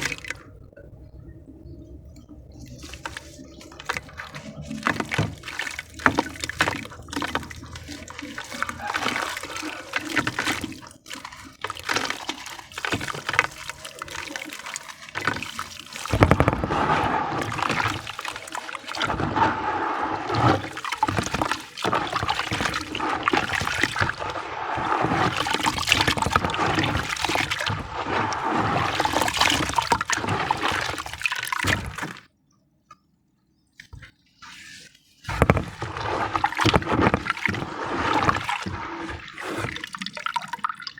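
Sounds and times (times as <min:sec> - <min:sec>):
wet crackling and sloshing: 0:00.0 - 0:40.9.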